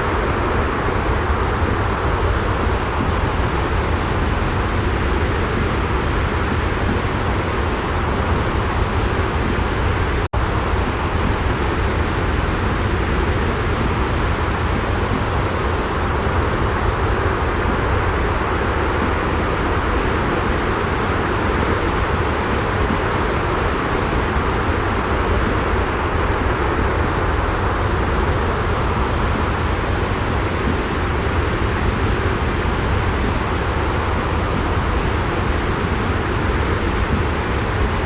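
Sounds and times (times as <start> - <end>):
white noise ambience: 0.0 - 38.0.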